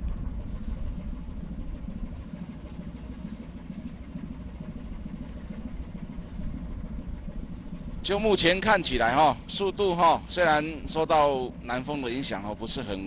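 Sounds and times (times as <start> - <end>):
ship engine rumbling: 0.0 - 13.0.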